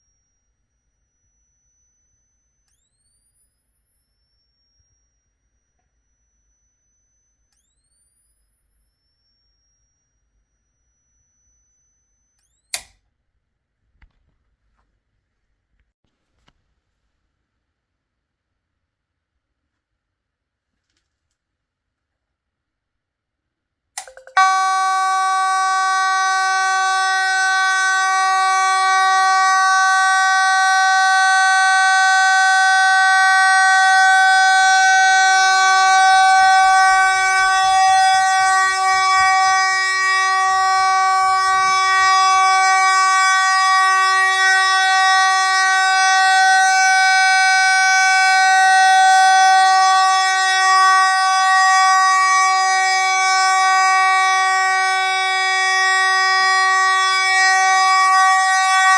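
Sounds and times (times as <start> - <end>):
fire alarm horn: 0.0 - 12.9, 24.0 - 58.9.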